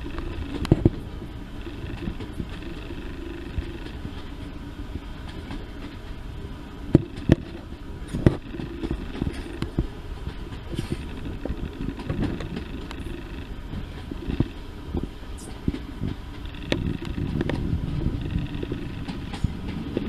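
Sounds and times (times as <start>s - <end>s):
train engine rumble: 0.0s - 20.0s.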